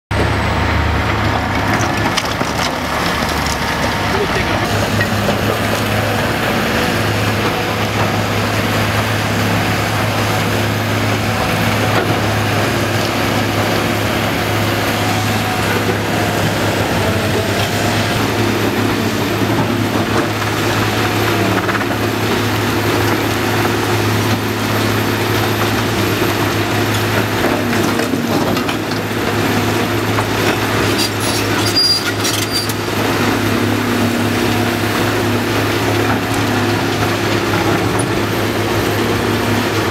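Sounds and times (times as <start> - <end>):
diesel engine running under load: 0.1 - 39.9.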